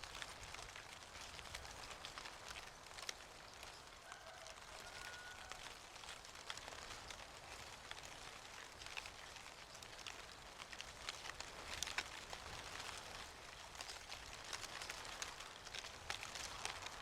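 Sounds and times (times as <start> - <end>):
falling leaves rustling: 0.0 - 17.0.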